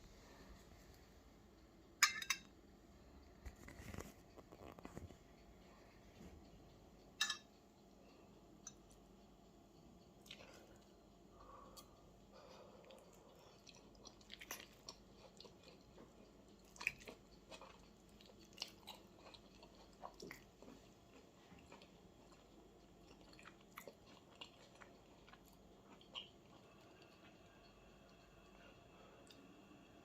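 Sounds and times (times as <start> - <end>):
faint chewing: 3.1 - 30.0.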